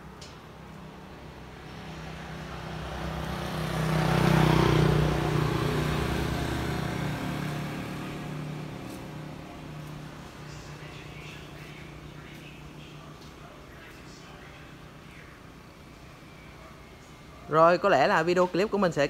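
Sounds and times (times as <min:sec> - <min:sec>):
vehicle engine passing by: 0:00.9 - 0:17.4.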